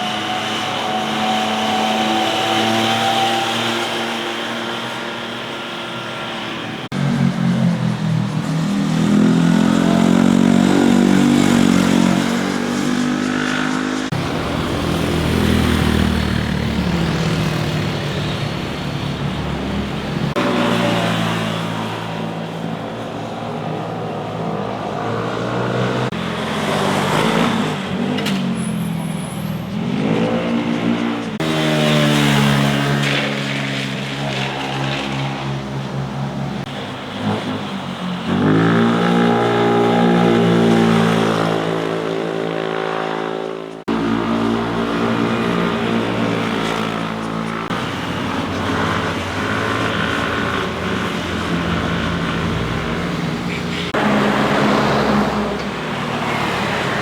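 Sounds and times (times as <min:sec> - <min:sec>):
motorcycles revving past: 0:00.0 - 0:22.3, 0:29.7 - 0:57.0.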